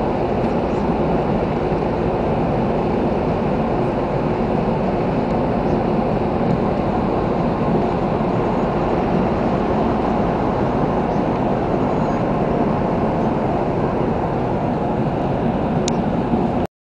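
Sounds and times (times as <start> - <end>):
ship engines rumbling: 0.0 - 16.7.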